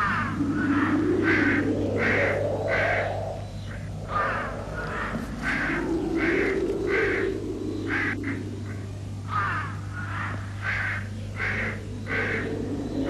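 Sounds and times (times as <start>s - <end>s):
low wavering sound: 0.0s - 10.1s, 11.1s - 13.0s
crows cawing: 0.0s - 13.0s
steady low hum: 0.0s - 13.0s.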